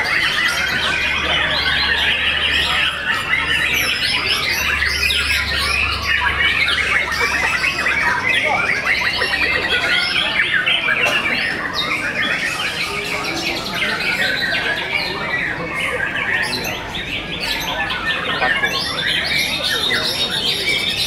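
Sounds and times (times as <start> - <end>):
birds singing: 0.0 - 21.0.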